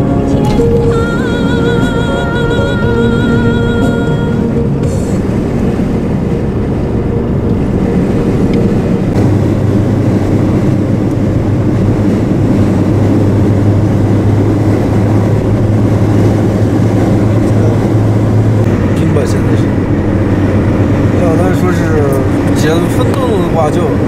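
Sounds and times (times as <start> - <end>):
low steady hum: 0.0 - 21.5
car engine and road noise: 0.0 - 24.0.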